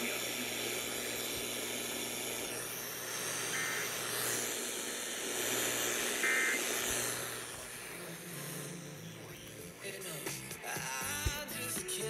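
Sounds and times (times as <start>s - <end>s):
radio static hiss: 0.0s - 10.7s.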